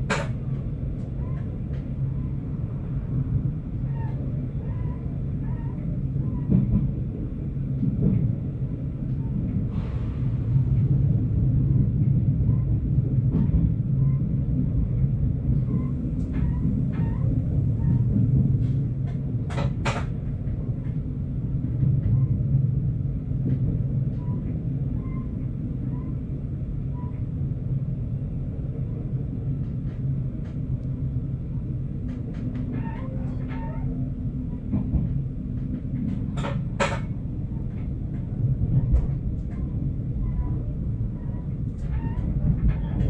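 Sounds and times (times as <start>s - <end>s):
low train engine drone: 0.0s - 43.0s.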